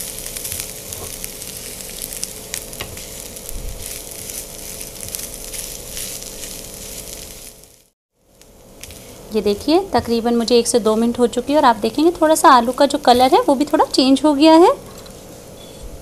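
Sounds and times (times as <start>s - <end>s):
potato frying in oil: 0.0s - 14.4s.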